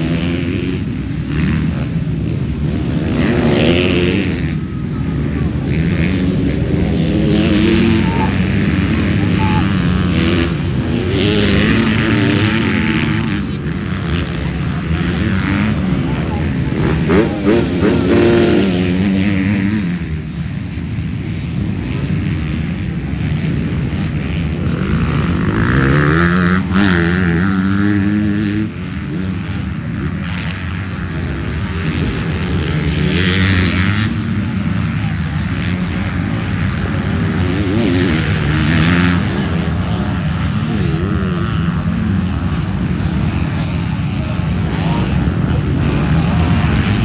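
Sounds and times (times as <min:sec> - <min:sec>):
motocross bike engines revving: 0:00.0 - 0:47.0.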